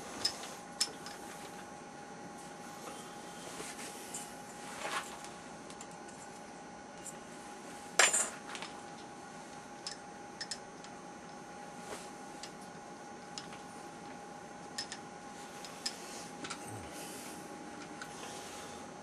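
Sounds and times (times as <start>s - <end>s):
faint machine whine: 0.0s - 19.0s.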